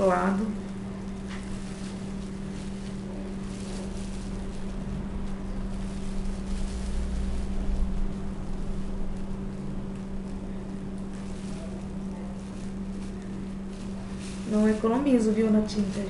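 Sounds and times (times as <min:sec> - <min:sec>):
faint rustling: 0:00.0 - 0:16.0
low rumble: 0:00.0 - 0:16.0
steady low hum: 0:00.0 - 0:16.0.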